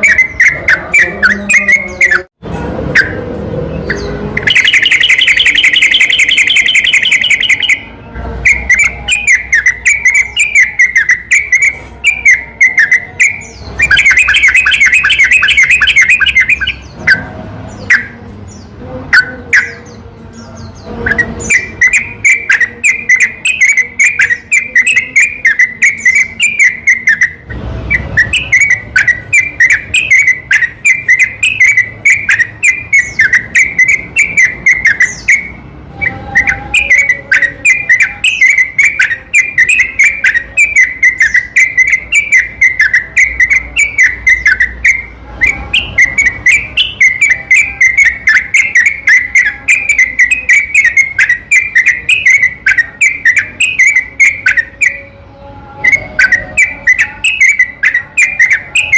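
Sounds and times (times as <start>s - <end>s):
bird singing bubbly whistled notes: 3.9s - 17.2s, 21.1s - 55.0s.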